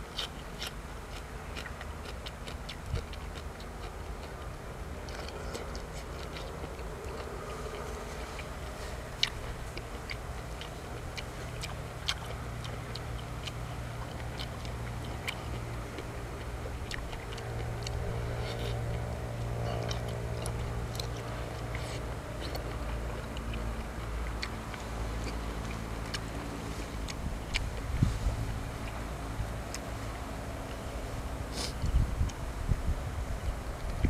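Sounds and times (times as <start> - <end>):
person chewing food: 0.0 - 31.0
steady low hum: 0.0 - 34.0.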